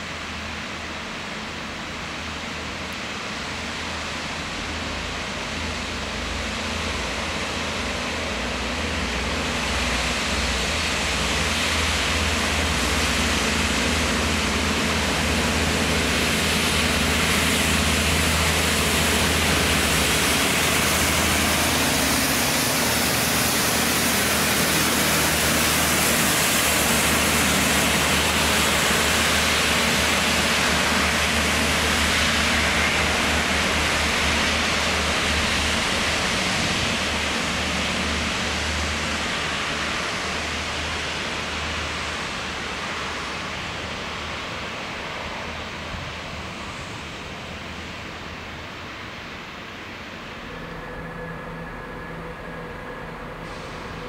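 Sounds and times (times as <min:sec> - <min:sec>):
diesel train rumble: 0:00.0 - 0:54.0.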